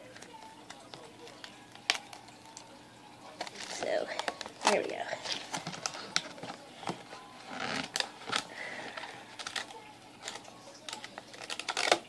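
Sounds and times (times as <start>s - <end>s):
plastic container clicks and crinkles: 0.1s - 2.7s, 3.3s - 12.0s.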